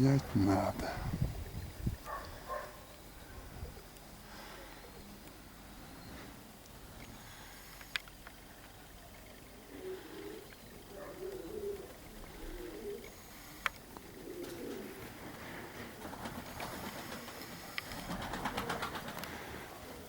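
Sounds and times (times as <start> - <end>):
crackling rustle: 0.0 - 20.0
pigeons cooing: 0.0 - 20.0.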